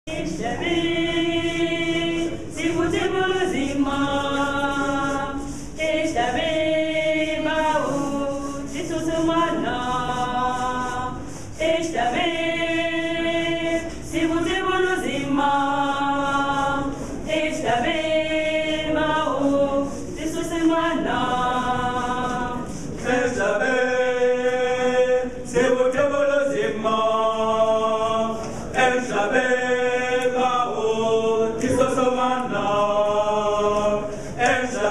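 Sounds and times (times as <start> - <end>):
mixed choir singing a cappella: 0.1 - 34.9.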